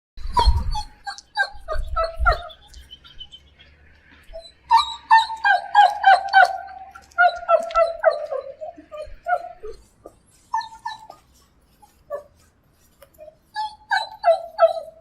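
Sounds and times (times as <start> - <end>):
dog whimpering: 0.3 - 2.8, 4.2 - 12.4, 13.2 - 15.0.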